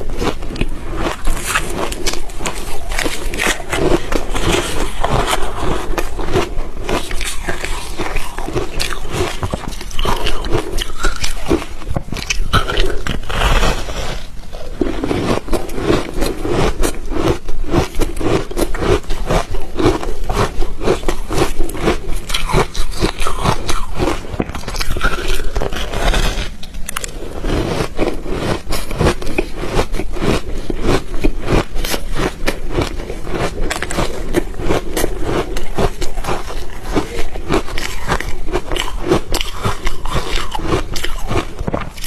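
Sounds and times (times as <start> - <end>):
ice being crunched in mouth: 0.1 - 42.0.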